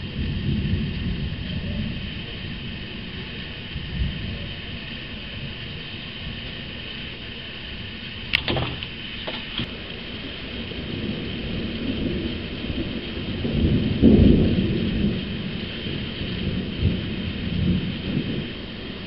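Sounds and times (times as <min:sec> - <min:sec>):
rolling thunder: 0:00.0 - 0:07.2, 0:07.8 - 0:19.0.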